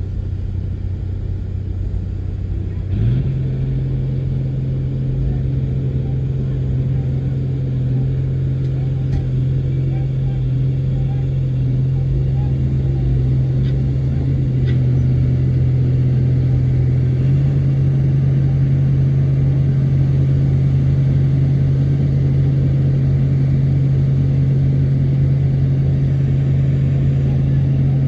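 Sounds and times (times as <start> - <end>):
bulldozer diesel engine drone: 0.0 - 28.0.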